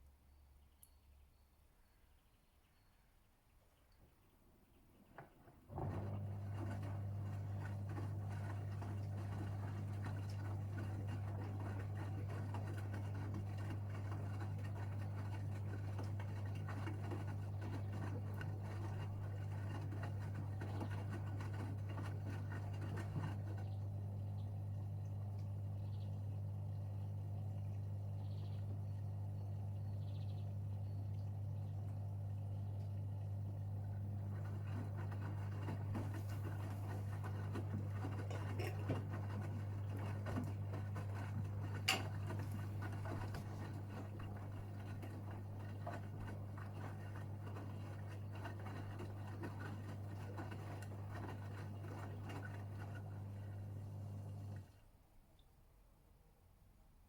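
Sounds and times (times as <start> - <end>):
drain pump humming: 5.1 - 54.9.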